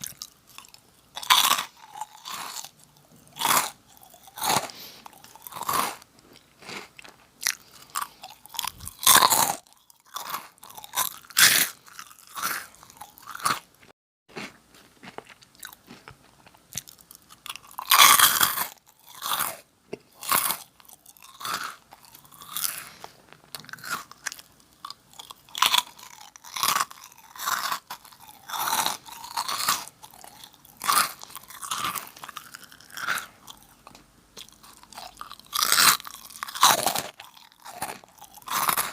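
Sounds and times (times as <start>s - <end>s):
crunching and chewing crackers: 0.0s - 38.9s.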